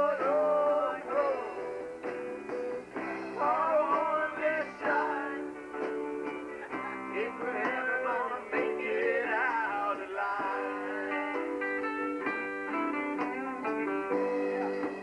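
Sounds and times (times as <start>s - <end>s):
drums: 0.0s - 15.0s
electric guitar: 0.0s - 15.0s.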